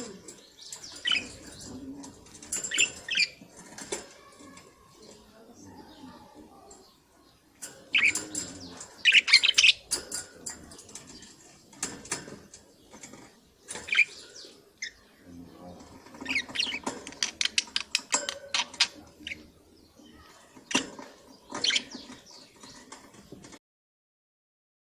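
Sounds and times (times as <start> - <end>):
budgerigars chirping and chattering: 0.0 - 23.6.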